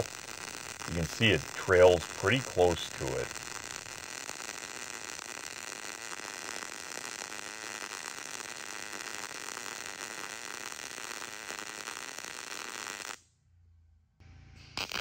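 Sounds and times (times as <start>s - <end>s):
welding arc crackling hiss: 0.0s - 13.2s, 14.6s - 15.0s.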